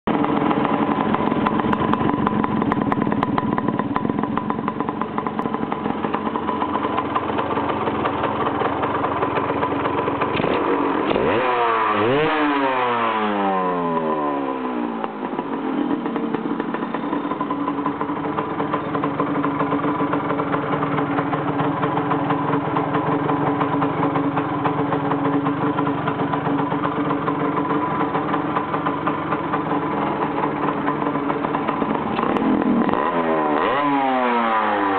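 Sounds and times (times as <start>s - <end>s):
car engine idling and revving: 0.1s - 34.9s.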